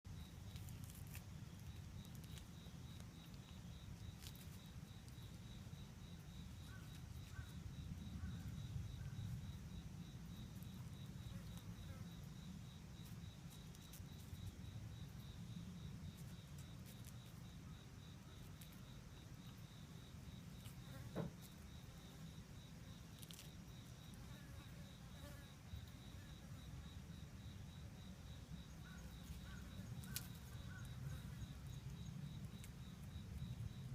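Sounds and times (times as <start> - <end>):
insect trilling: 0.1 - 33.9.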